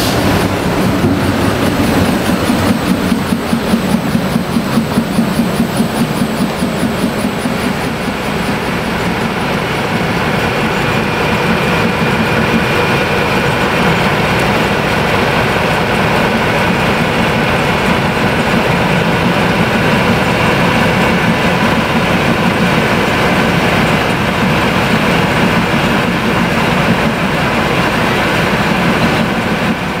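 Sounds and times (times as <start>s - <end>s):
diesel locomotive engine running: 0.0s - 30.0s
rhythmic clatter: 0.0s - 30.0s.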